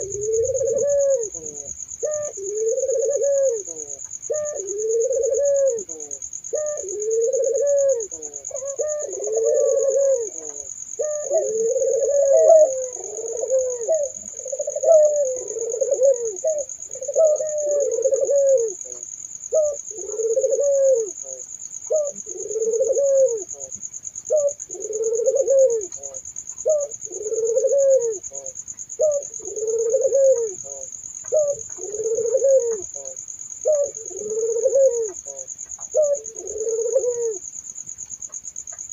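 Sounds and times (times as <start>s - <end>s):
doves cooing: 0.0s - 37.6s.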